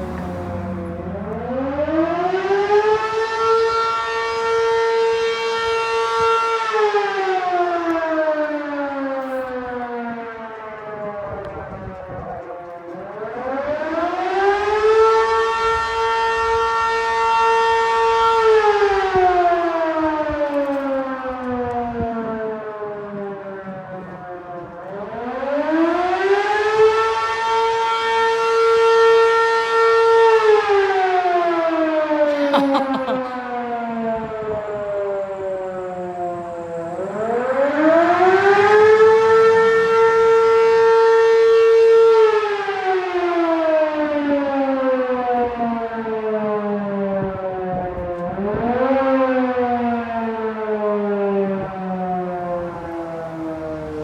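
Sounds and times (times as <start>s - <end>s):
fire siren wailing: 0.0s - 54.0s.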